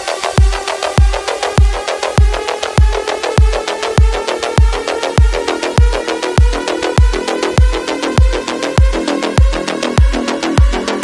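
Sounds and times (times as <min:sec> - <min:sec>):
fast ticking percussion: 0:00.0 - 0:11.0
sustained synth chords: 0:00.0 - 0:11.0
deep kick drum: 0:00.2 - 0:11.0.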